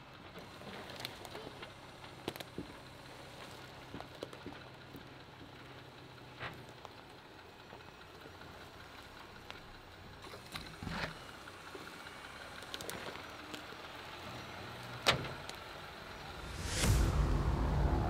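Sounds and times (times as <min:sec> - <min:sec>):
truck engine running at low speed: 0:00.0 - 0:18.0.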